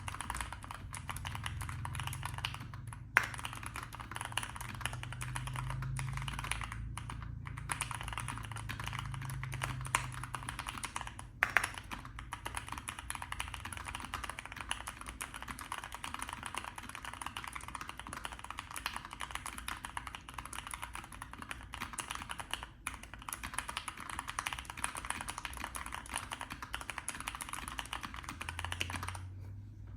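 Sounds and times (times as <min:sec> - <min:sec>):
mechanical keyboard typing: 0:00.0 - 0:29.4.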